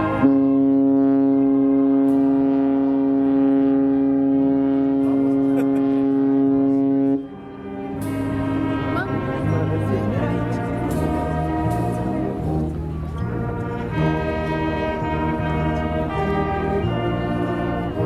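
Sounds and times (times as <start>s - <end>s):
deep ship horn blast: 0.0s - 18.0s.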